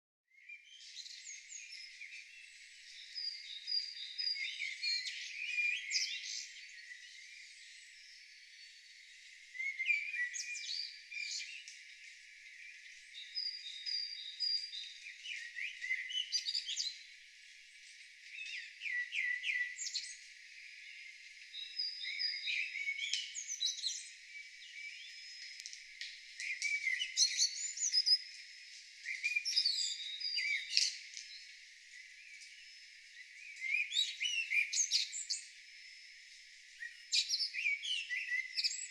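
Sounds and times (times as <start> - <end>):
songbirds singing: 0.3 - 38.9.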